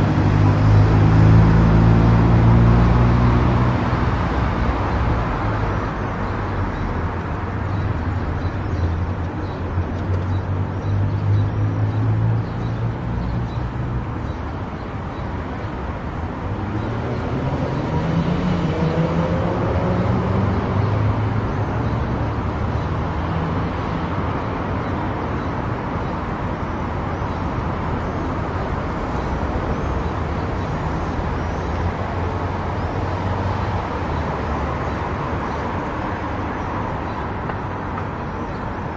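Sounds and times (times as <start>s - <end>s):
tyre and road noise: 0.0s - 38.9s.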